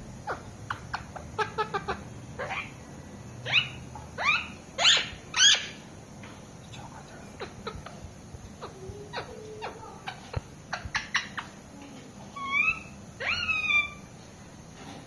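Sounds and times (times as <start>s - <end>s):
parakeet calling: 0.2s - 5.9s, 7.0s - 11.7s, 12.3s - 14.2s.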